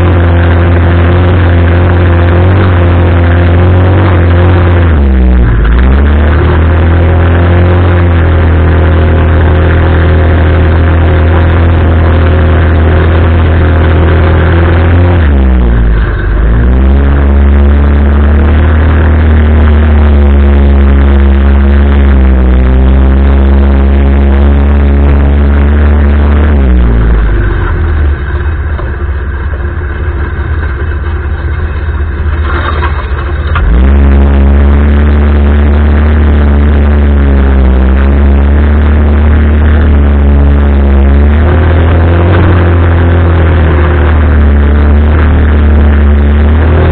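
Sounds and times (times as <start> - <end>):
engine running loud: 0.0 - 46.9.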